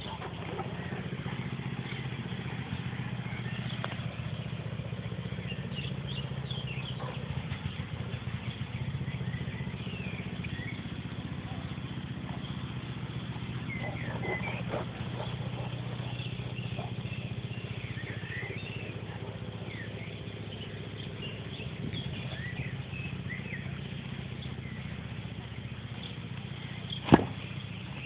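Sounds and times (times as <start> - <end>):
motor running with low drone: 0.0 - 28.0.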